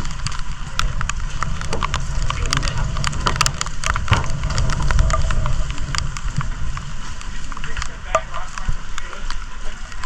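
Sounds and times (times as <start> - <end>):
raindrops pattering: 0.0 - 10.0
steady low rumble: 0.0 - 10.0.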